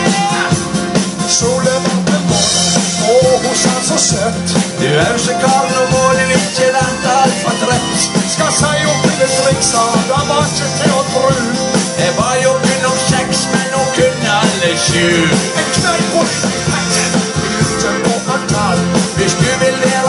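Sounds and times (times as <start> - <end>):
live band playing amplified music: 0.0 - 20.0.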